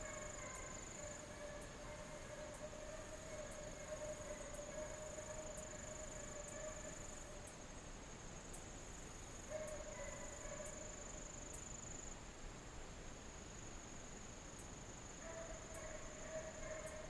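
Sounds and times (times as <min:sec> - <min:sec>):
insects trilling: 0:00.0 - 0:07.8, 0:08.4 - 0:12.2, 0:13.6 - 0:17.0.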